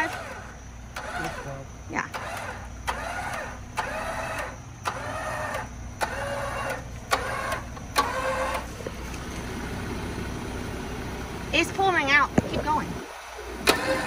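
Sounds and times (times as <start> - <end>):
car engine idling: 0.0 - 14.0
winch motor whining: 0.0 - 14.0.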